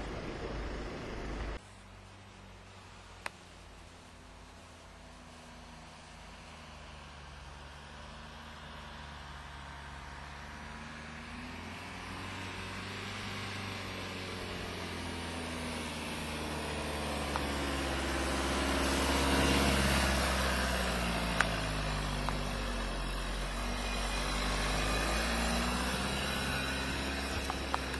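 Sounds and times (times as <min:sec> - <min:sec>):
car engine driving past: 0:05.2 - 0:27.9.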